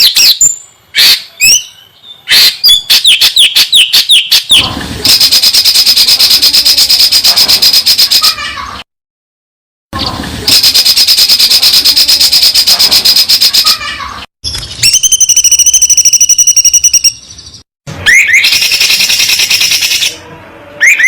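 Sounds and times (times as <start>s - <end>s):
high-pitched bird trills: 0.0s - 8.7s, 10.5s - 20.2s, 20.8s - 21.0s.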